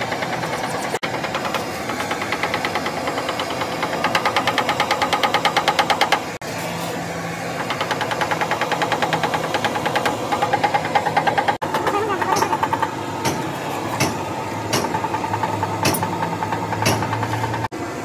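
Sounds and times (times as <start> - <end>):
engine knocking rapidly: 0.0 - 6.4, 7.6 - 13.4, 14.0 - 17.7.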